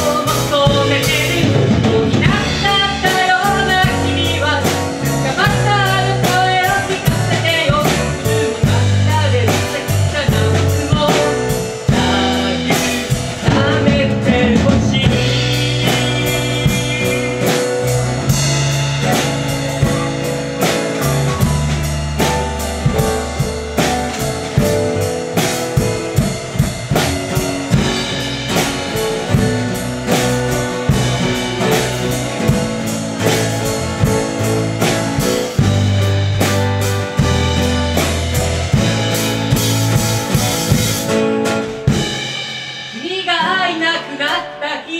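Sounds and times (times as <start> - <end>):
guitars playing: 0.0 - 44.5
drum kit beat: 0.0 - 44.6
keyboard: 0.0 - 44.9.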